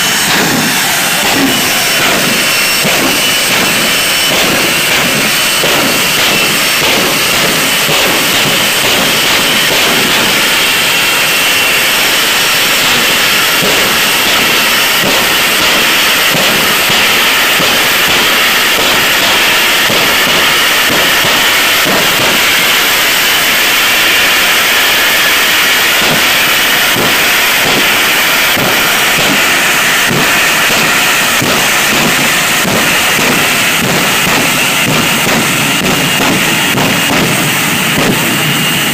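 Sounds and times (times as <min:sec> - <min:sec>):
jet engine roaring: 0:00.0 - 0:38.9.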